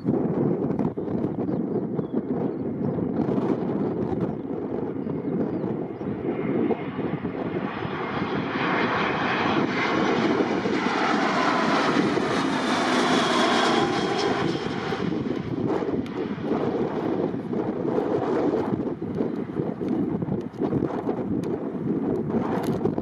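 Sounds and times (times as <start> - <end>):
jet engine rumble and whine: 0.0 - 23.0.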